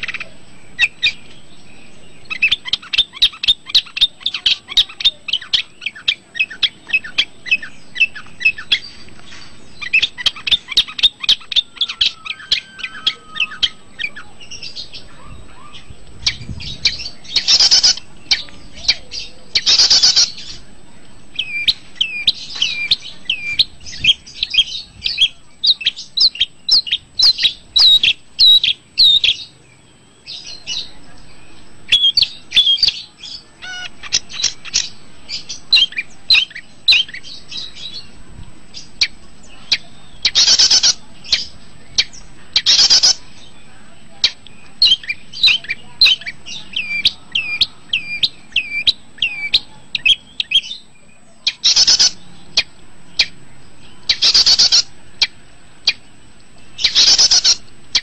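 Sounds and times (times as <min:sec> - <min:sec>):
bird whistled song: 0:00.0 - 0:20.7, 0:21.3 - 0:29.6, 0:30.2 - 0:58.0
harsh rasping bird calls: 0:00.0 - 0:58.0.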